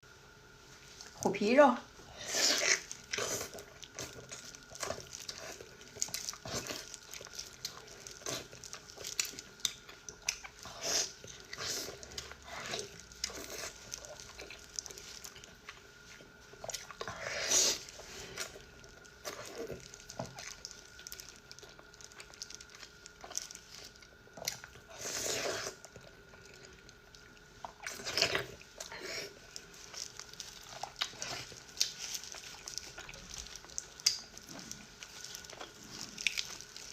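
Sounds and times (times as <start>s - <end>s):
wet chewing and mouth smacks: 2.4s - 36.9s.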